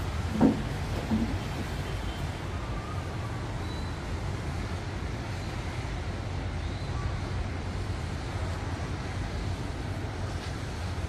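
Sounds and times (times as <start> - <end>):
wind and rain rushing: 0.0 - 11.0.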